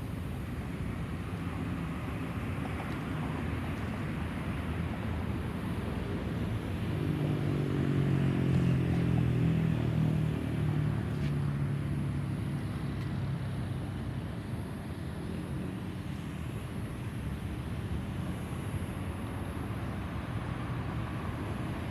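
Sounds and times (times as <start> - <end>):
jet engines passing overhead: 0.0 - 21.9.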